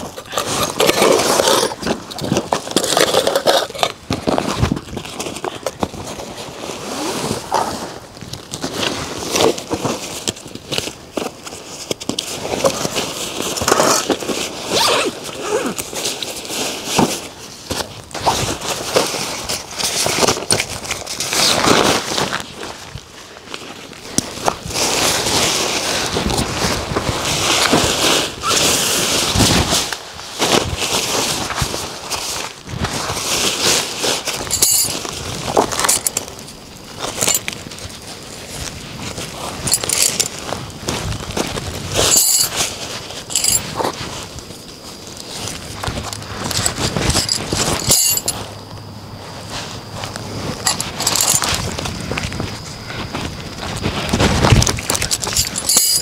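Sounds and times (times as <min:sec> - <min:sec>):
rustling and scraping: 0:00.0 - 0:56.0.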